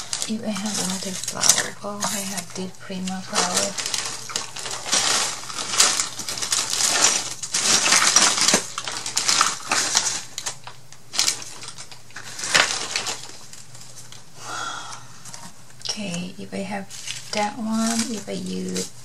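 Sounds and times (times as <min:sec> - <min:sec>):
paper crinkling and rustling: 0:00.0 - 0:14.3, 0:15.3 - 0:19.0.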